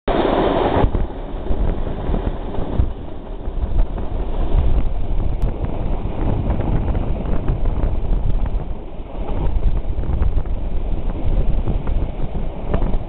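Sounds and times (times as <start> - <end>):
train wheels rumbling on track: 0.1 - 13.0
wind buffeting microphone: 0.1 - 13.0.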